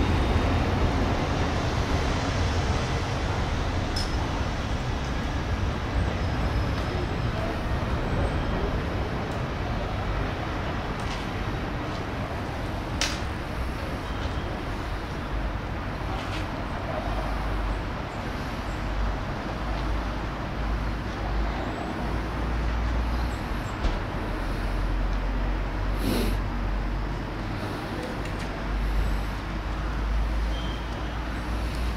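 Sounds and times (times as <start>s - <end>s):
traffic noise: 0.0s - 31.9s
tram rumbling: 0.0s - 31.9s.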